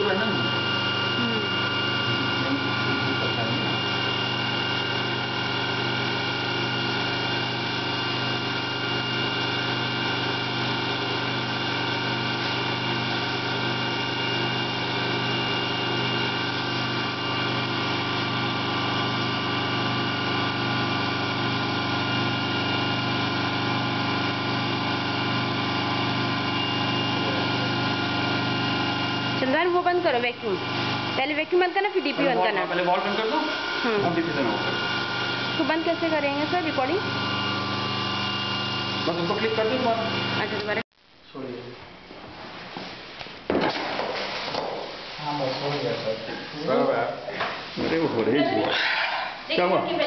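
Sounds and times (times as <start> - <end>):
vacuum pump humming: 0.0 - 40.8.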